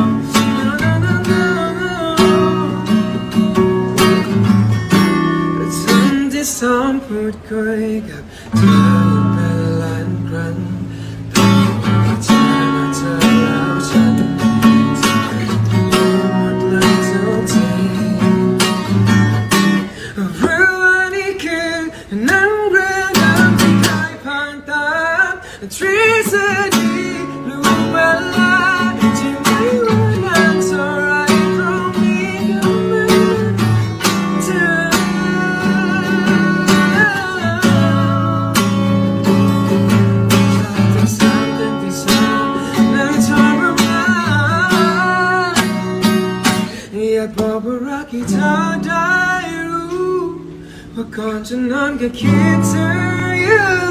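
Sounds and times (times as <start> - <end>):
acoustic guitar strumming: 0.0 - 53.9
man singing a ballad: 0.0 - 53.9.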